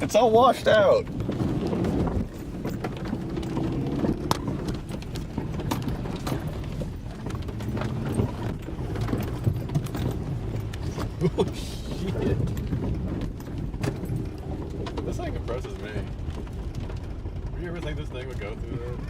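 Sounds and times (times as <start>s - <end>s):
car engine running: 0.0s - 19.0s
sharp clicks and knocks: 1.0s - 19.0s.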